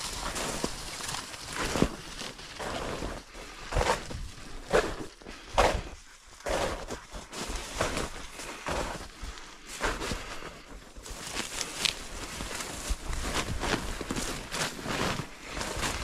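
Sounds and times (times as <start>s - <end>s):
footsteps through field cover: 0.0s - 16.0s.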